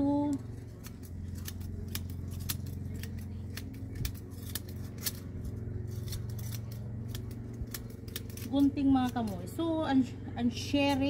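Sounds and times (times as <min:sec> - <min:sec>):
steady low hum: 0:00.0 - 0:11.0
scissors snipping grass: 0:00.1 - 0:11.0.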